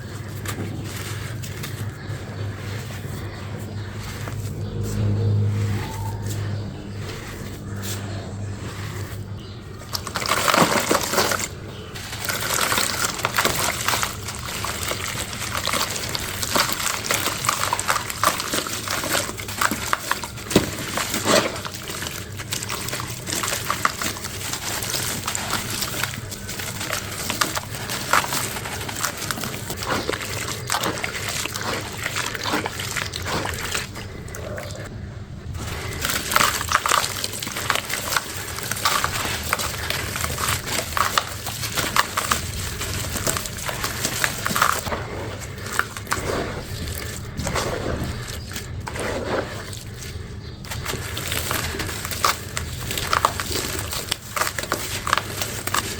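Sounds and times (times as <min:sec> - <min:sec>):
crumble blocks crunching: 0:00.0 - 0:55.9.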